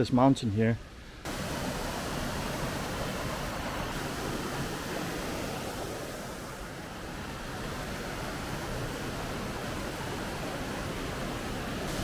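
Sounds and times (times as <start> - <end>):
rushing water: 1.2 - 12.0.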